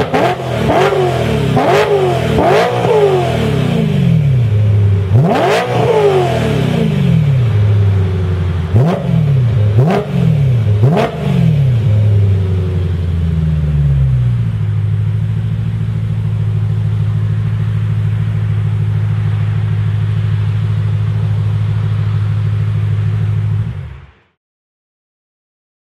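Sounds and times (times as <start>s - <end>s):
car engine revving and idling: 0.0s - 24.4s.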